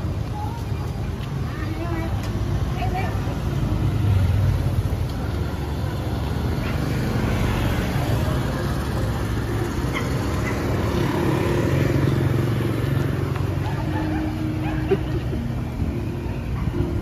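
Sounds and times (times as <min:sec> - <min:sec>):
motorbike engines rumbling: 0:00.0 - 0:17.0.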